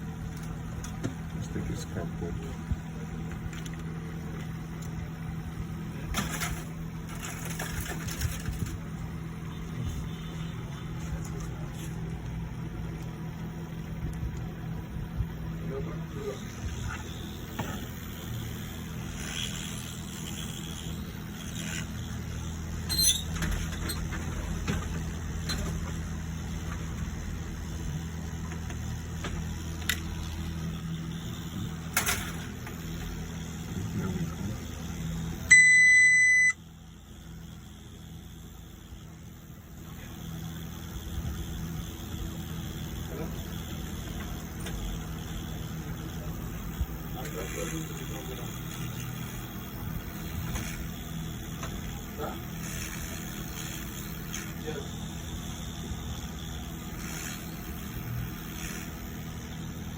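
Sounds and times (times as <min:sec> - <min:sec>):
electrical equipment hum: 0:00.0 - 0:59.9.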